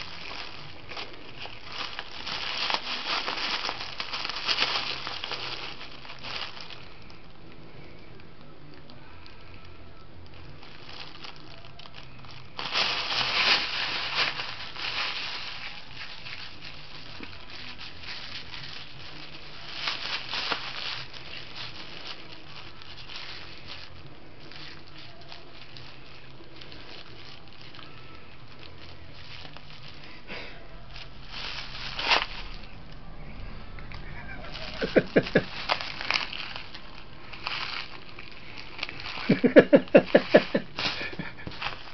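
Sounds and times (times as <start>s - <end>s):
bag crinkling and rustling: 0.0s - 41.9s.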